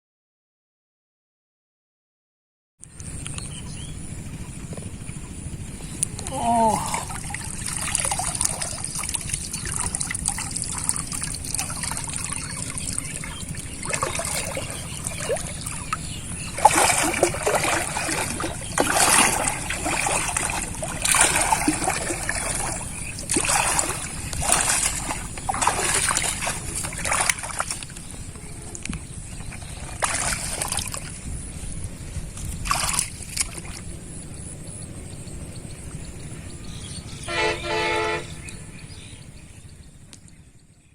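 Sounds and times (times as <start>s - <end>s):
pond water splashing: 2.8s - 39.1s.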